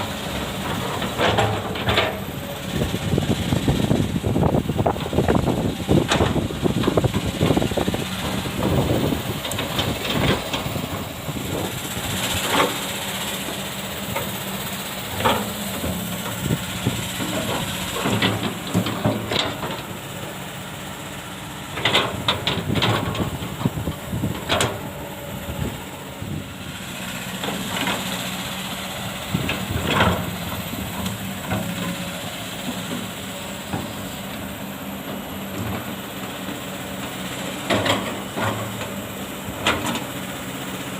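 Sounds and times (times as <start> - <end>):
excavator clanking: 0.0 - 40.9
excavator diesel engine running: 0.0 - 40.9.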